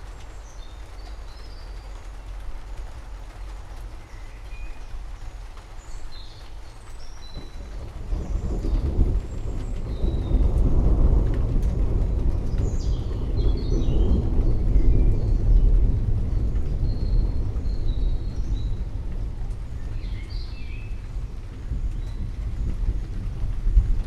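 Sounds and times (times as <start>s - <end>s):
forest birds chirping: 0.0s - 10.6s, 12.1s - 23.9s
low rumble of thunder: 0.0s - 24.0s
rain falling: 0.0s - 24.0s.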